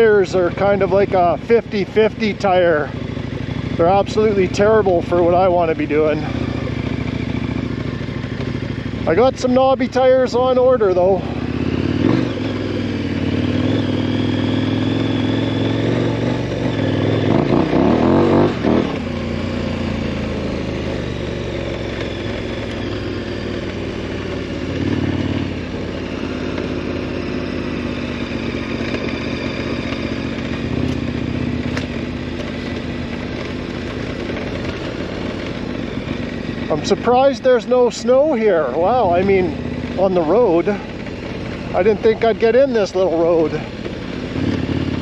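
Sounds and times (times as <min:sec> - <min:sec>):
motorcycle engine under way: 0:00.0 - 0:45.0.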